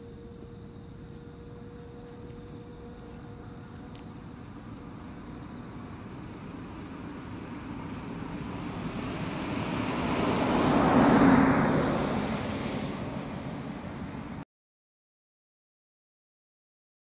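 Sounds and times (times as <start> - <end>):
vehicle passing by: 0.0 - 14.4.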